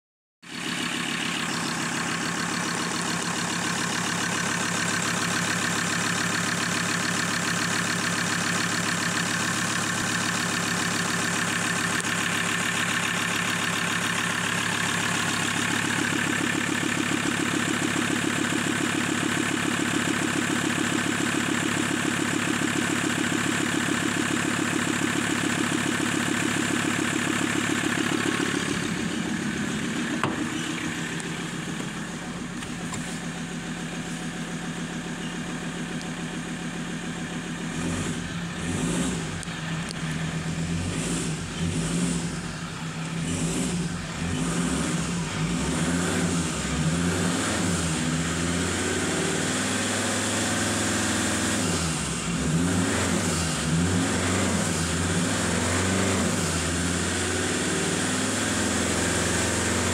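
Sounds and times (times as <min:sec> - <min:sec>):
diesel engine idling: 0:00.4 - 0:59.9.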